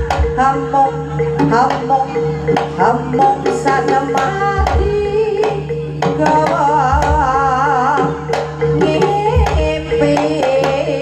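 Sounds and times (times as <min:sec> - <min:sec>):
drum strokes: 0:00.0 - 0:00.7, 0:01.3 - 0:11.0.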